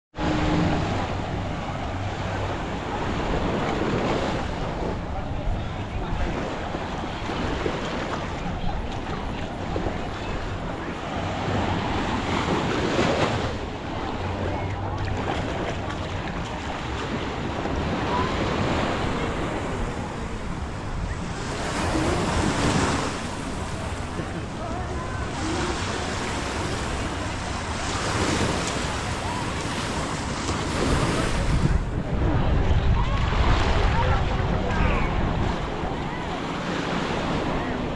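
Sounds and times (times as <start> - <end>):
sea surf washing onto a beach: 0.2 - 37.9
wave breaking: 0.2 - 37.9
wind buffeting the microphone: 0.2 - 37.9.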